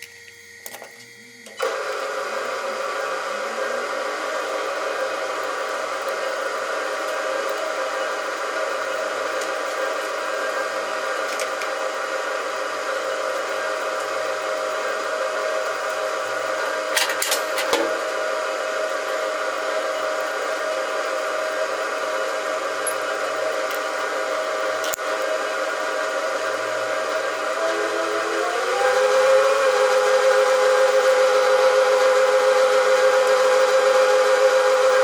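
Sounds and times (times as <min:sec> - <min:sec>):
machine tool whining: 0:00.0 - 0:35.0.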